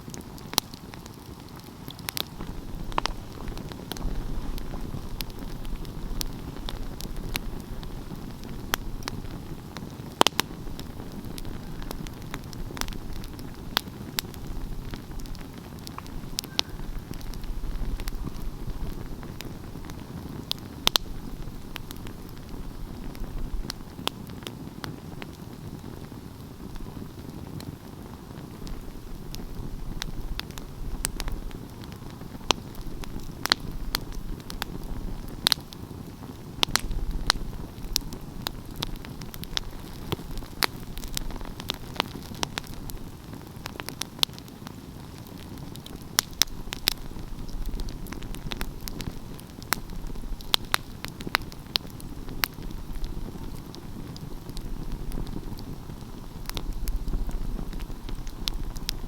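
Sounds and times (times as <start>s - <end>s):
fire popping and snapping: 0.0s - 59.0s
low rumble of burning fire: 0.0s - 59.0s.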